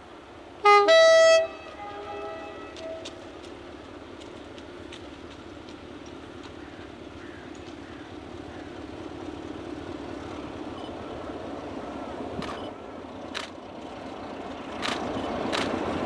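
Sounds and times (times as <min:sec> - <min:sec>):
diesel locomotive engine drone: 0:00.0 - 0:16.0
wheels clicking on rails: 0:01.6 - 0:16.0.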